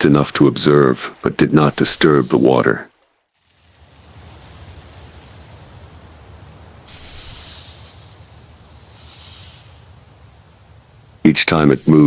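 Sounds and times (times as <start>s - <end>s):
high steady hiss: 0.0s - 12.0s.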